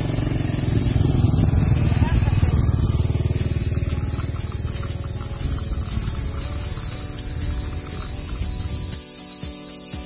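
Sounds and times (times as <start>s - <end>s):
motor scooter engine passing: 0.0s - 9.5s
cicadas shrilling: 0.0s - 10.0s.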